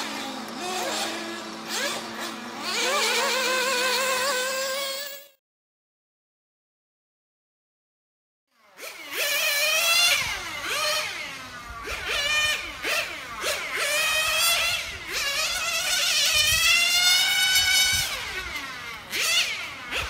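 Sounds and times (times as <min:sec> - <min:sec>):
small nitro engine revving: 0:00.0 - 0:05.4, 0:08.5 - 0:20.0.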